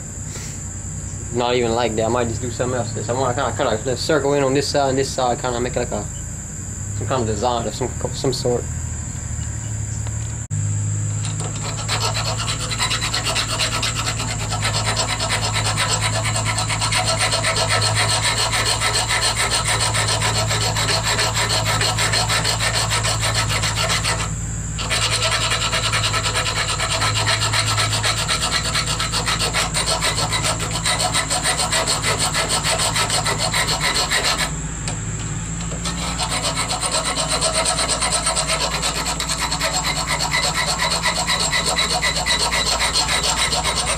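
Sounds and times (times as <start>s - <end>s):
file rasping: 1.4s - 6.0s, 11.2s - 34.6s, 35.6s - 43.9s.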